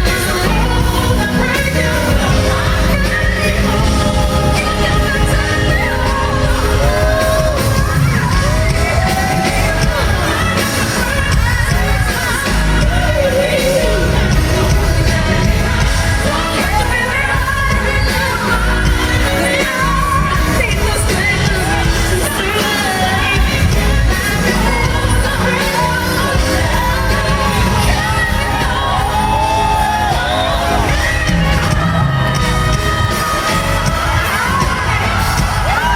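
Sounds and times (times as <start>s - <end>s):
live band playing: 0.0s - 35.9s
woman singing: 0.0s - 35.9s.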